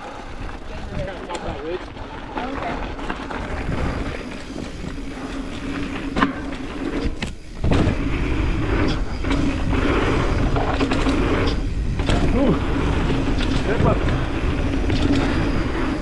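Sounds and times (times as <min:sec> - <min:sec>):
bike tyres on rough ground: 0:00.0 - 0:16.0
wind on microphone: 0:02.9 - 0:16.0.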